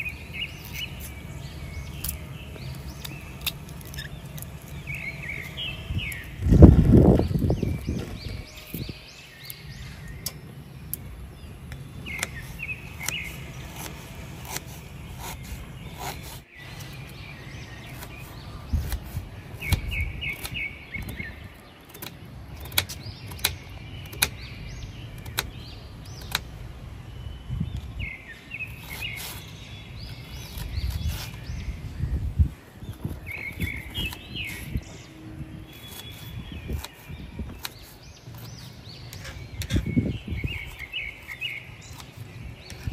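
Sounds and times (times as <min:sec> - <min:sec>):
birds chirping: 0:00.0 - 0:42.9
low outdoor rumble: 0:00.0 - 0:42.9.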